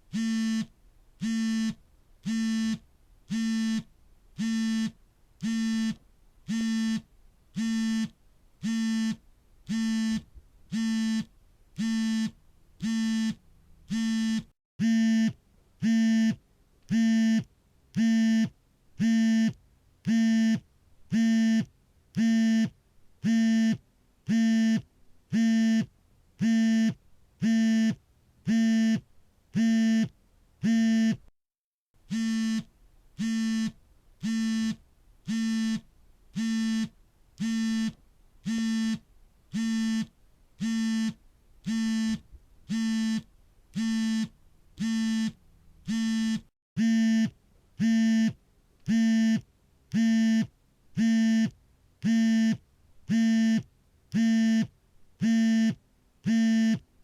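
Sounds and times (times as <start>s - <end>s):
phone vibrating: 0.1s - 7.0s, 7.6s - 29.0s, 32.1s - 35.8s, 36.4s - 49.4s, 50.0s - 56.8s.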